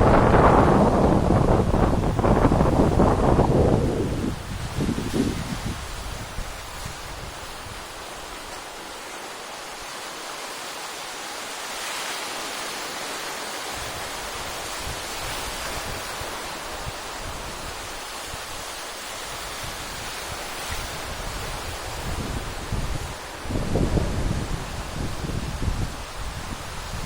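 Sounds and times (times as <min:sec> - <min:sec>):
wind rumbling on microphone: 0:00.0 - 0:09.1, 0:13.0 - 0:27.0
sea surf waves breaking: 0:00.0 - 0:27.0.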